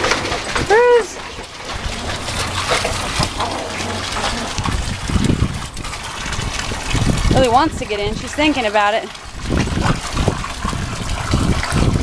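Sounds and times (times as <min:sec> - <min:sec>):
hose water splashing into pool: 0:00.0 - 0:12.0.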